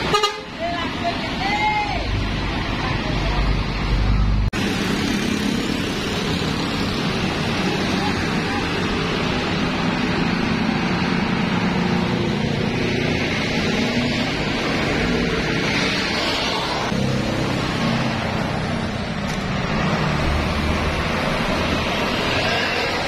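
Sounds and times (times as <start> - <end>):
bus engine rumble passing: 0.0 - 23.0
road traffic: 0.0 - 23.0.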